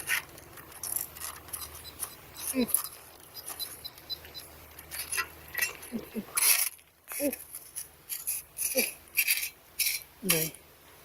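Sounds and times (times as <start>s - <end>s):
small hard objects clinking: 0.0s - 10.6s.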